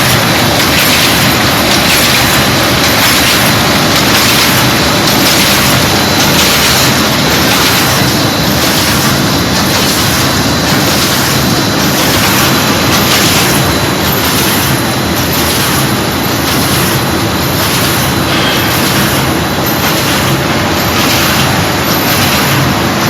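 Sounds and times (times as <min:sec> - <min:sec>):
machine clatter and hum: 0:00.0 - 0:23.0.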